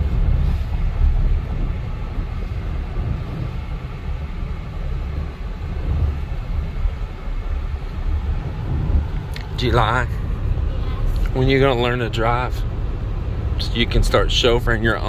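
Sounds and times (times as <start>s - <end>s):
road and engine rumble in cabin: 0.0s - 15.0s.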